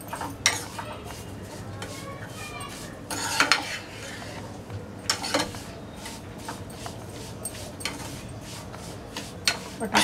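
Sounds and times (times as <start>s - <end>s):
metal spoon scraping pan: 0.0s - 1.9s, 2.7s - 4.4s, 5.1s - 10.0s.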